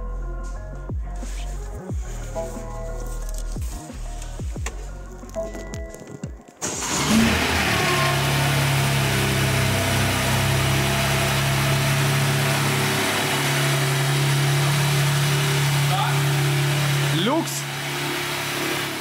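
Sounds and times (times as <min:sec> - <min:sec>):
car engine starting and idling: 0:03.0 - 0:19.0.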